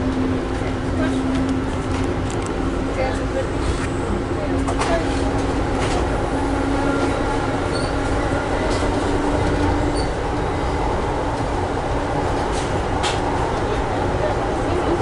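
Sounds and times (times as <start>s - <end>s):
train wheels on rail rumble: 0.0s - 15.0s.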